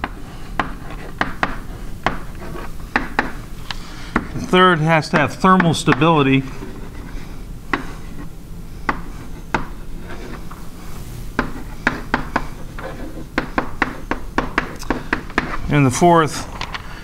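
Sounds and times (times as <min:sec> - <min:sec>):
chalk tapping on blackboard: 0:00.0 - 0:04.5, 0:05.1 - 0:10.7, 0:11.3 - 0:15.7.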